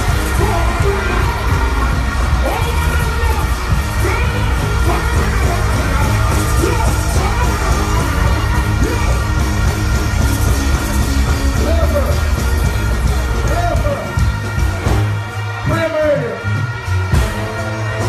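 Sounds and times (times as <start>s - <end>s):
dancehall music with heavy bass: 0.0s - 18.0s.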